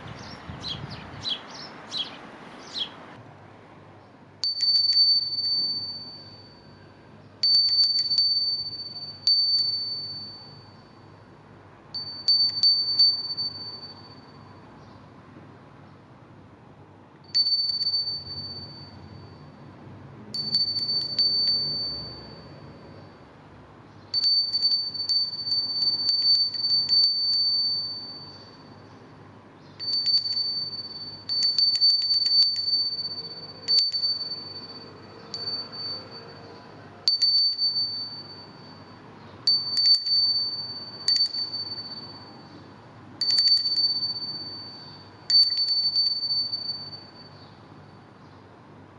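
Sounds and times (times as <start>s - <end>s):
small bell ringing: 4.4s - 15.0s, 17.3s - 48.2s.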